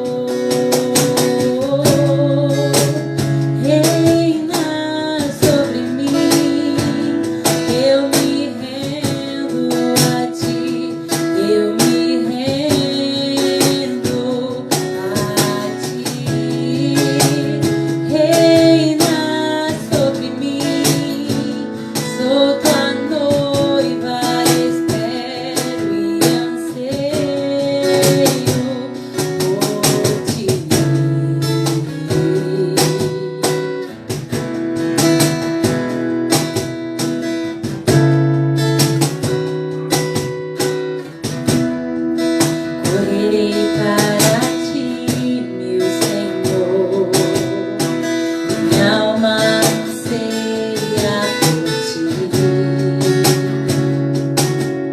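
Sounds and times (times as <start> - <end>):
acoustic guitar strumming chords: 0.0 - 54.9.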